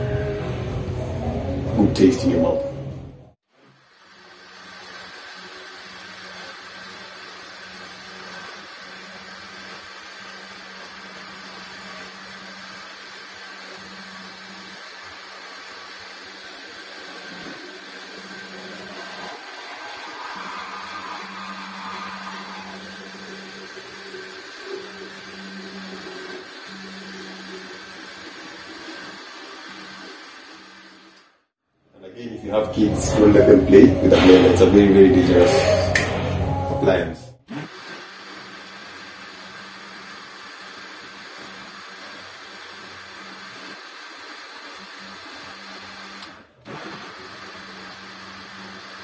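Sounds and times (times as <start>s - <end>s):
blender running: 3.4s - 31.5s, 37.4s - 49.0s.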